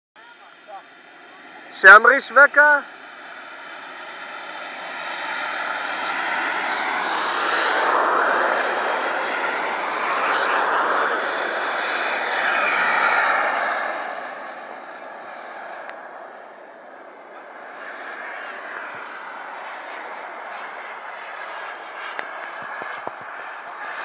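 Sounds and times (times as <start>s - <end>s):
model jet turbine whine: 0.2s - 24.0s.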